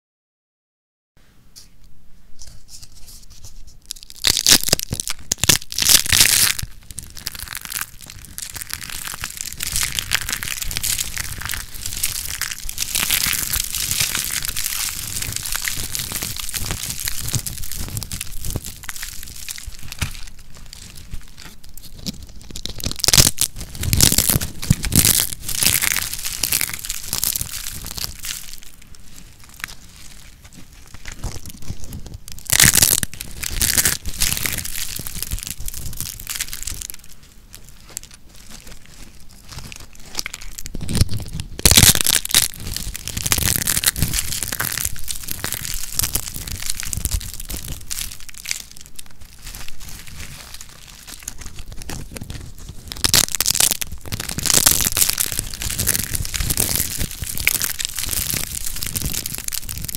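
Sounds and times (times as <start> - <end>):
dry soap crunching and snapping: 3.8 - 59.9.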